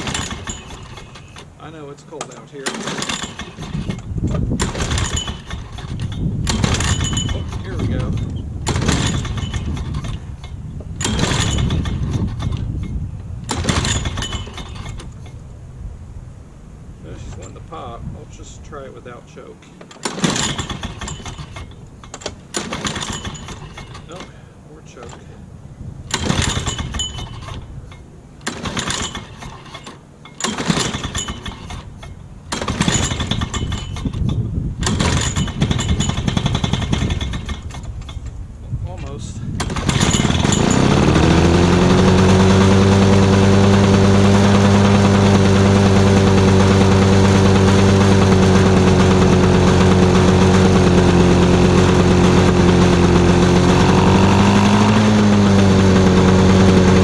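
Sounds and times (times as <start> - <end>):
engine firing and popping: 0.0 - 1.6, 2.2 - 15.4, 19.8 - 24.4, 26.1 - 38.4, 39.6 - 57.0
lawn mower pull-start: 0.0 - 15.4, 19.6 - 25.4, 26.1 - 38.4, 39.5 - 57.0.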